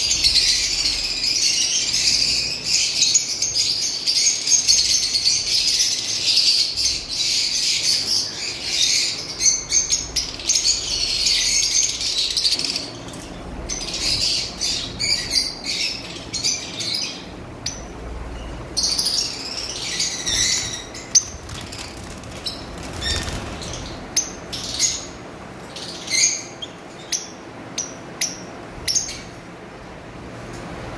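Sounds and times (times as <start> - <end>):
lovebirds chattering shrill chirps: 0.0 - 29.4.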